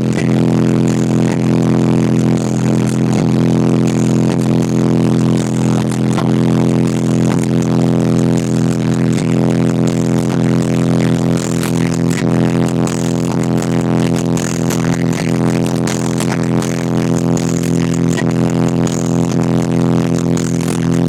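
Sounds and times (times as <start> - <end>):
distorted bass-heavy music: 0.0 - 21.0.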